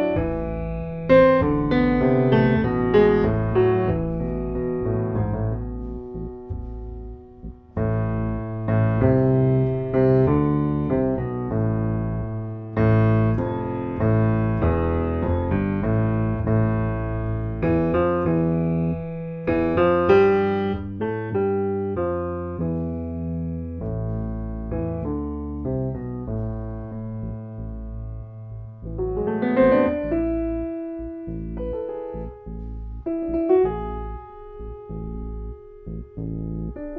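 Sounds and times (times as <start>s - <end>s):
solo piano music: 0.0s - 36.9s.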